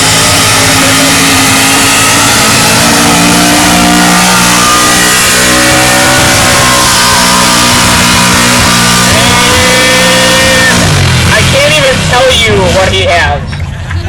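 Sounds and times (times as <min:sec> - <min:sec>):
truck engine screeching at high revs: 0:00.0 - 0:14.0.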